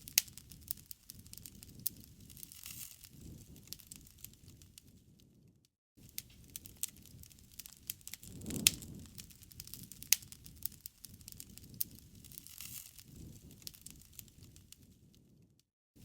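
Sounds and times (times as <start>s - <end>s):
loud fire pops: 0.0s - 15.5s
campfire crackling: 0.0s - 15.6s
low hiss of burning: 0.0s - 15.6s.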